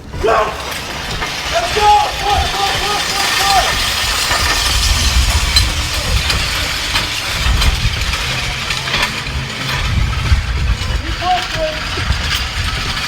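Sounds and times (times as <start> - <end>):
metal runners grinding on pavement: 0.0 - 13.0
wind rumble on microphone: 0.0 - 13.0.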